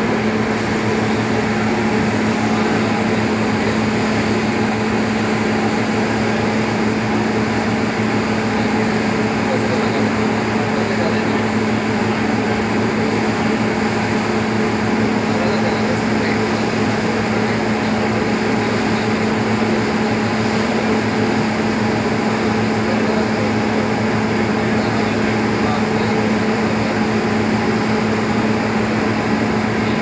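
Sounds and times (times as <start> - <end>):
boat engine drone: 0.0 - 30.0.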